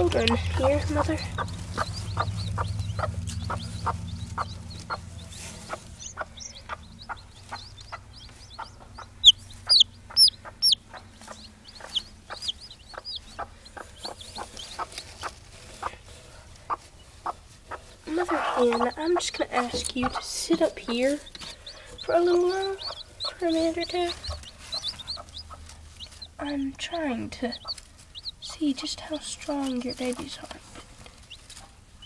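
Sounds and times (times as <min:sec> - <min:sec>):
chicks peeping: 0:00.0 - 0:32.0
hen clucking softly: 0:00.1 - 0:16.0, 0:16.6 - 0:28.4.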